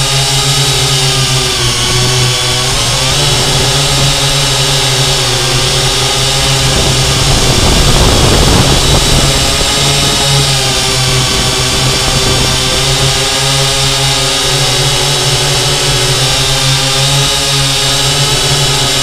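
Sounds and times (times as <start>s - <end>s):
drone motors whining: 0.0s - 19.0s
rough rushing noise: 0.0s - 19.0s.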